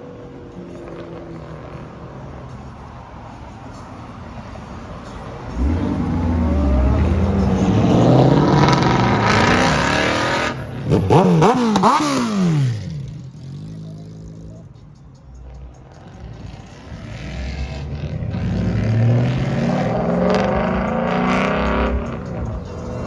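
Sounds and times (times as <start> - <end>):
car engine revving: 0.0 - 14.8, 15.4 - 23.0.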